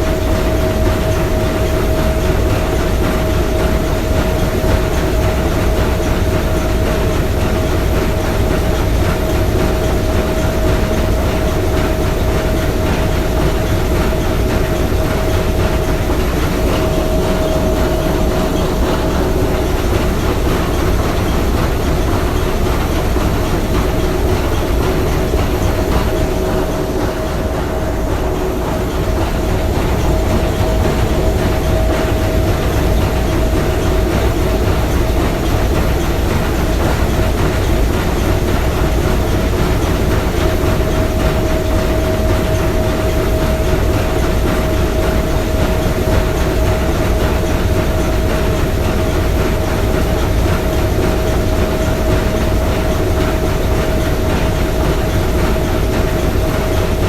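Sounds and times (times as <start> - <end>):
steam engine clattering: 0.0 - 57.0.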